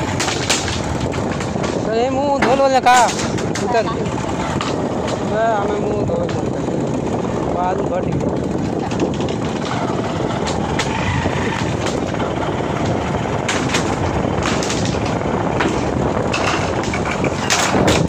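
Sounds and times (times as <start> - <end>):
motorcycle engine rumble: 0.0 - 18.0
wheels clanking over steel plates: 0.0 - 18.0.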